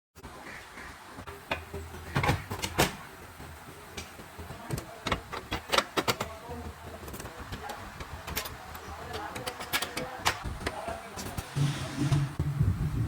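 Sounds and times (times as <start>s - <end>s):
parts knocking and clattering: 1.1s - 12.5s.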